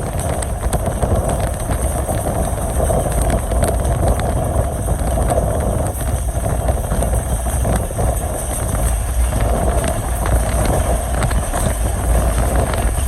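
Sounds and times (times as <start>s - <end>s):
faint clicks of rails: 0.0s - 13.0s
train wheels rumbling on rails: 0.0s - 13.0s.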